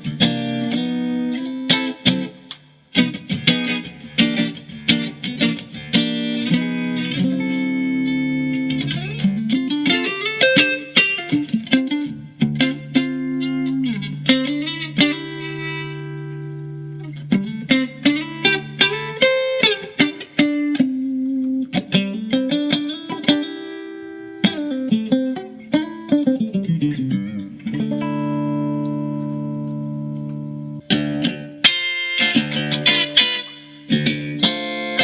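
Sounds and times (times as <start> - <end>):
electric guitar playing: 0.0 - 35.0.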